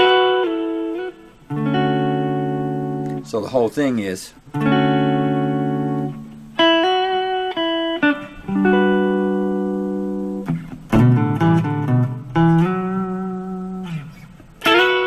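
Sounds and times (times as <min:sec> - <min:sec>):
guitar playing double stops: 0:00.0 - 0:15.0.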